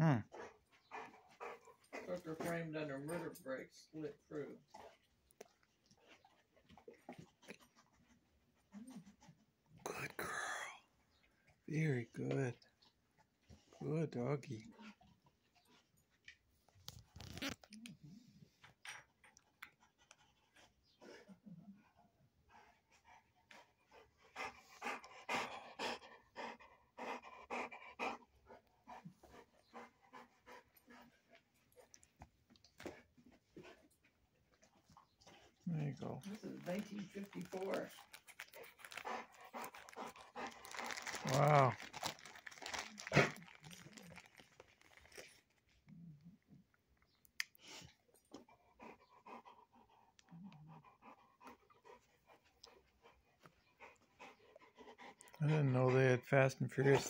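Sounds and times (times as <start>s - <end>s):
dog panting: 0.1s - 9.9s, 11.2s - 16.7s, 18.4s - 44.3s, 47.6s - 57.0s.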